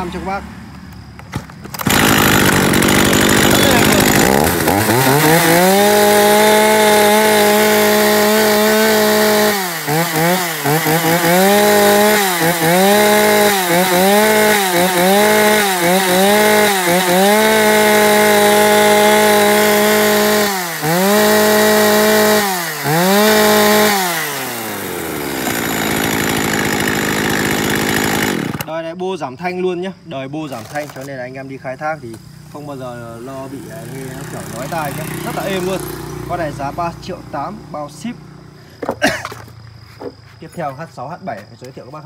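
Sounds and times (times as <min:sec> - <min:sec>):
chainsaw revving: 0:01.7 - 0:28.7, 0:30.5 - 0:31.2, 0:32.1 - 0:39.4.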